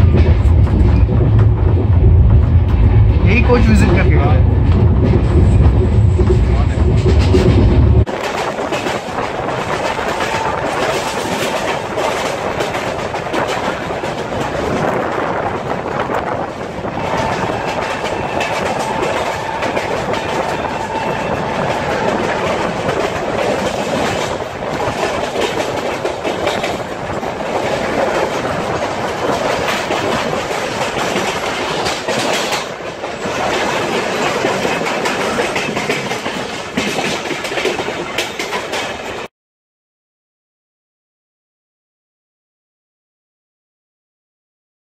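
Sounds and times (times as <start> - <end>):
clickety-clack over rail joints: 0.0 - 39.3
train wheel-on-rail rumble: 0.0 - 39.3.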